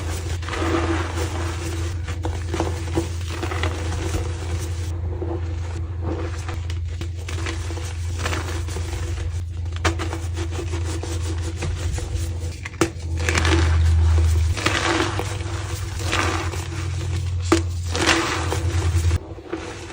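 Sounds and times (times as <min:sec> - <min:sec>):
chalk crushed by hand: 0:00.0 - 0:04.9, 0:06.3 - 0:19.9
low hum: 0:00.0 - 0:19.9.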